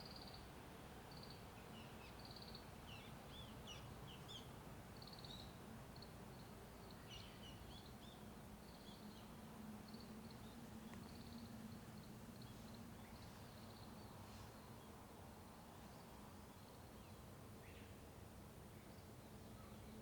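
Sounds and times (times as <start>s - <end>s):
wild birds singing faintly: 0.0s - 20.0s.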